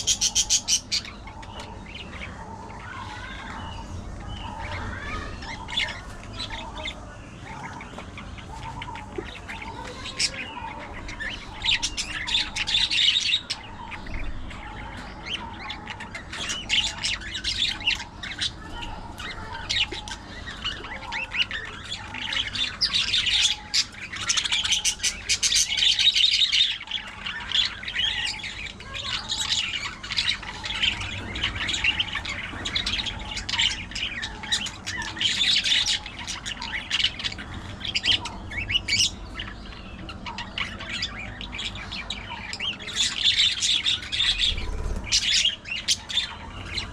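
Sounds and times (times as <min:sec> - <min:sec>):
budgerigars chirping and squawking: 0:00.0 - 0:46.9.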